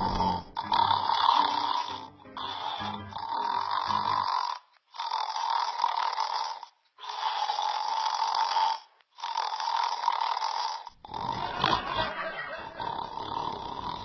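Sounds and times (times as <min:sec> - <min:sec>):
person snoring: 0:00.0 - 0:14.0.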